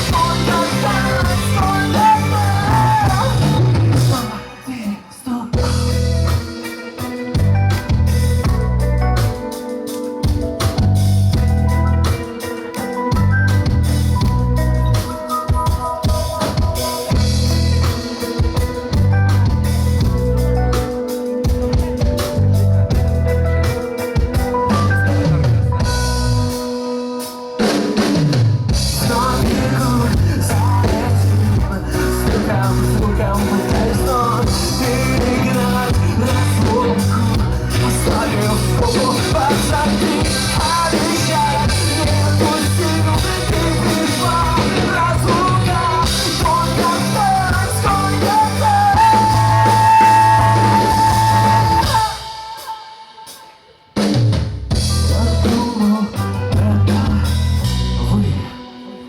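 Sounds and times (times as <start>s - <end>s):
keyboard chords: 0.0s - 4.8s, 5.5s - 59.0s
bass: 0.0s - 27.0s, 27.6s - 52.4s, 54.0s - 58.8s
drums: 0.0s - 59.0s
guitar: 0.0s - 59.0s.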